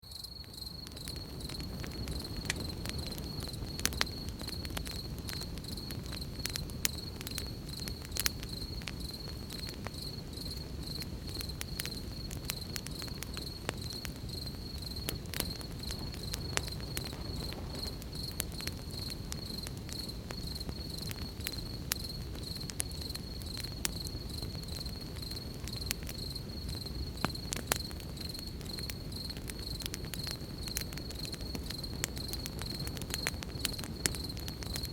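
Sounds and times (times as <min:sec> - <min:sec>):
campfire crackling: 0:00.1 - 0:34.9
crickets trilling: 0:00.1 - 0:34.9.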